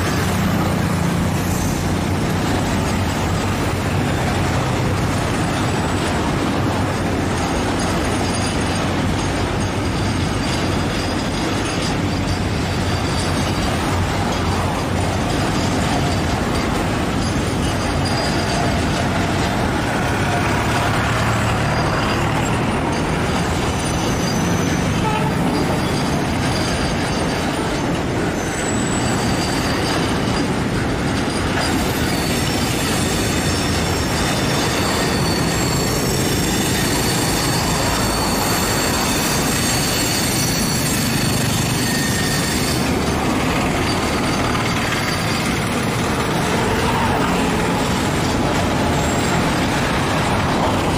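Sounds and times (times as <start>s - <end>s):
high-pitched wheel squeals: 0.0s - 50.9s
train wheels rumbling on track: 0.0s - 50.9s.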